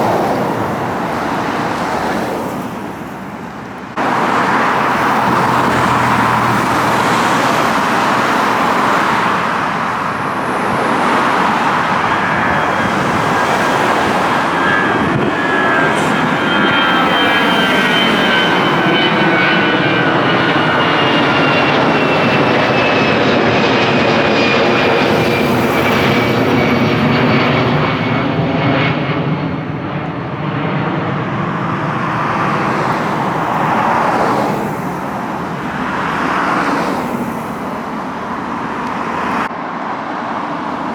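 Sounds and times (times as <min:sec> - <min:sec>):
jet airliner passing overhead: 0:00.0 - 0:40.9.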